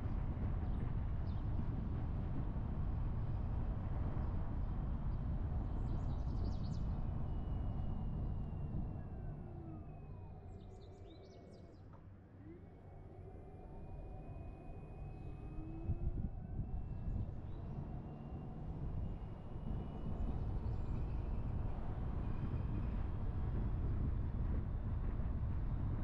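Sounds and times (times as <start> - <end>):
car road and engine noise: 0.2 - 10.6, 12.4 - 26.0.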